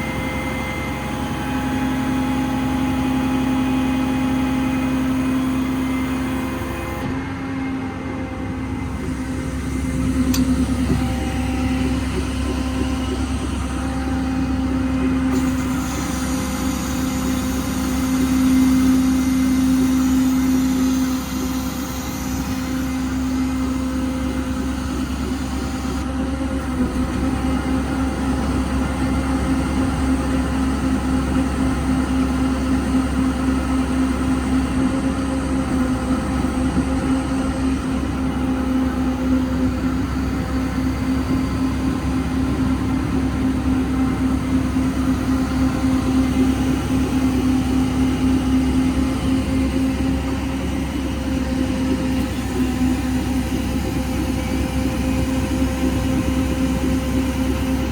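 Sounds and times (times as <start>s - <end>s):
diesel engine running: 0.0s - 57.9s
engine whine: 0.0s - 57.9s.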